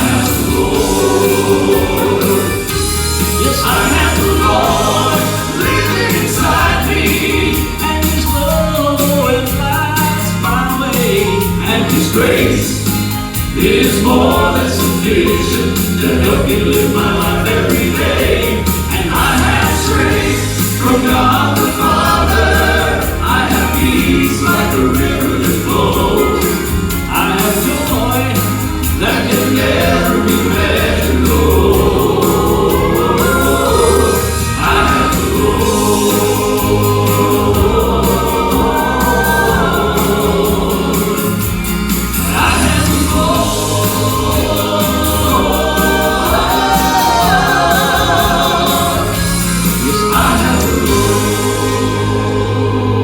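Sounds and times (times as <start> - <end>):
instrumental accompaniment with bass line: 0.0 - 53.0
vocal quartet singing in harmony: 0.0 - 53.0.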